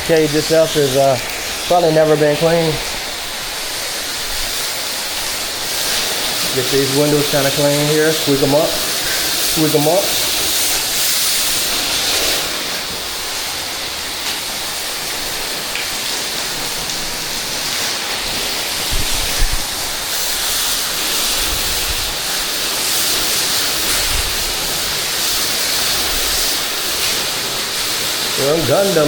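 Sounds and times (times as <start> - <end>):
pressure washer spray hissing: 0.0 - 29.0.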